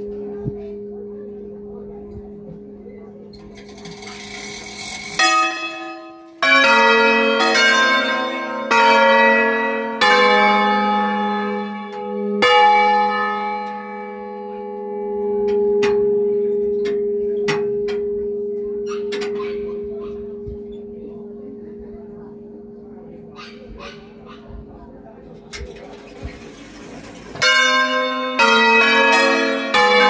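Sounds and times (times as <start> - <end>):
church bells ringing: 0.0 - 30.0.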